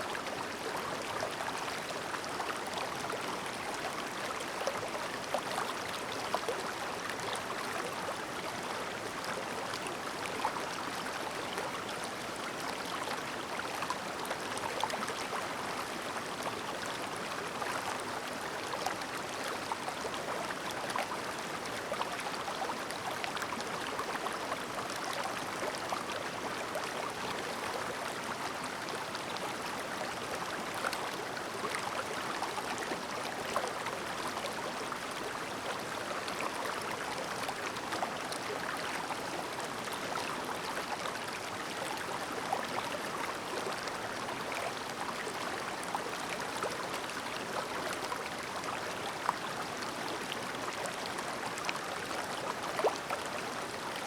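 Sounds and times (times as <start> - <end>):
mountain stream babbling: 0.0 - 54.0.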